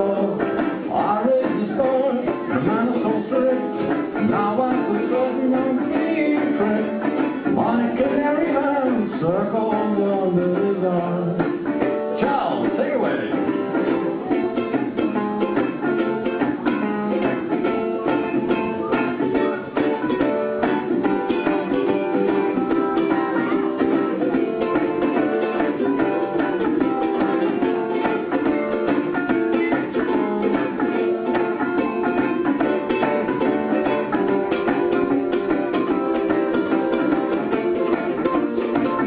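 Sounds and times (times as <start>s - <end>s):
ukulele playing: 0.0s - 39.0s.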